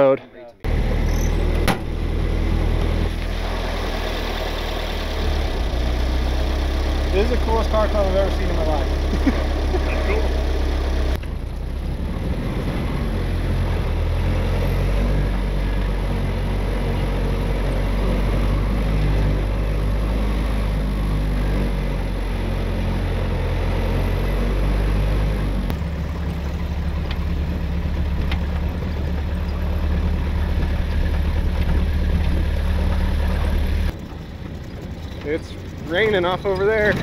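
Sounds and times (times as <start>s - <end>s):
vehicle engine running: 0.6s - 37.0s.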